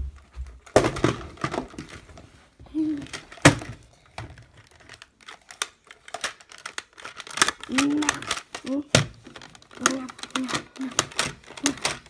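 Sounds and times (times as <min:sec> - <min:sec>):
plastic toy and fabric rustling: 0:00.0 - 0:12.0.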